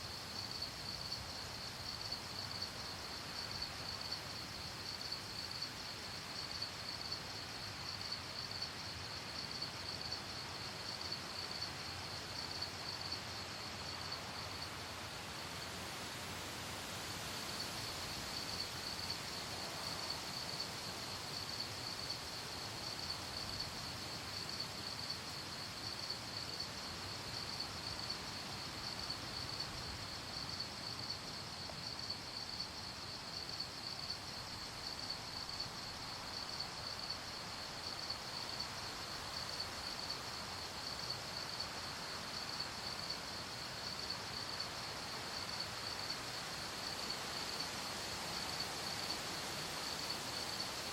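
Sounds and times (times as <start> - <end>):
crickets chirping: 0.0 - 50.9
soft background hiss: 0.0 - 50.9.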